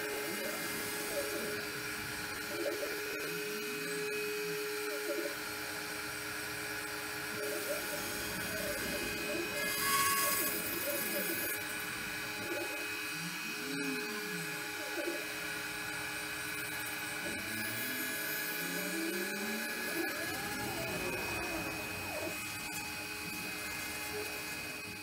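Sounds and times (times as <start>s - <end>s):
motors whining: 0.0s - 25.0s
router spindle running: 0.0s - 25.0s.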